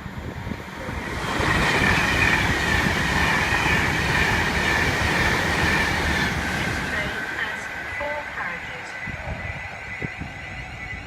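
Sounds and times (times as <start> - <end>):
train passing: 0.0 - 11.0.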